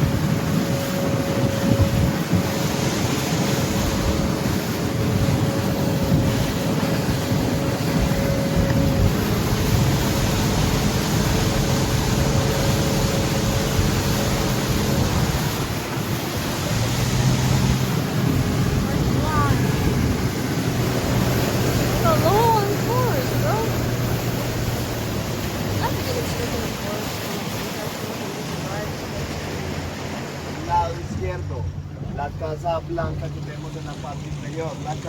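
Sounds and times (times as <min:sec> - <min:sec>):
motorboat engine running: 0:00.0 - 0:35.0
water rushing past hull: 0:00.0 - 0:35.0
wind buffeting microphone: 0:00.0 - 0:35.0.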